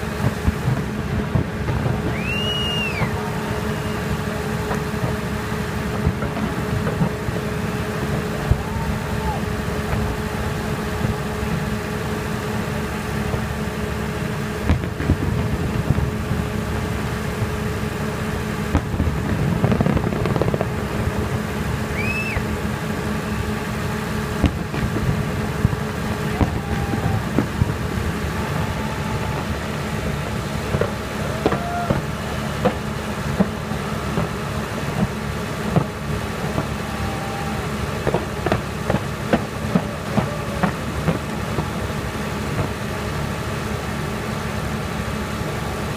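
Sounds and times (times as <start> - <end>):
sharp firework bangs: 0.0 - 43.6
fireworks launches and bursts: 0.0 - 45.9.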